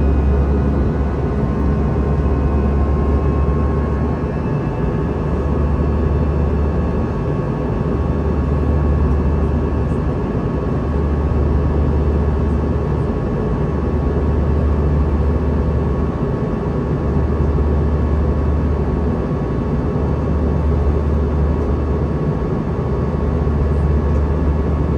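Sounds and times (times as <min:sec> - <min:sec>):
low engine drone: 0:00.0 - 0:24.9.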